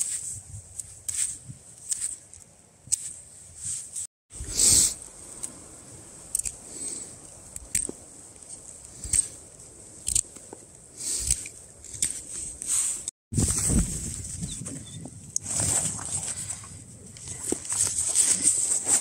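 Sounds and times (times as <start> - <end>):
camping gear clicks and rustles: 0.0 - 4.1, 6.3 - 19.0.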